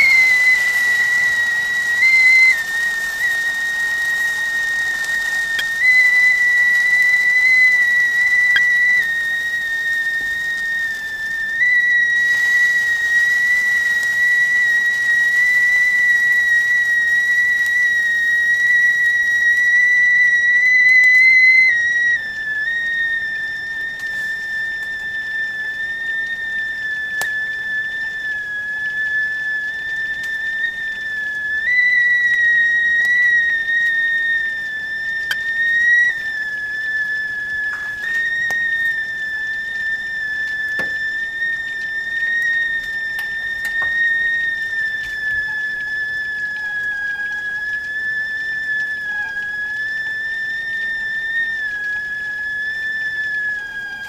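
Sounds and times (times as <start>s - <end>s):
kettle whistling: 0.0s - 54.0s
steam hissing: 0.0s - 54.0s.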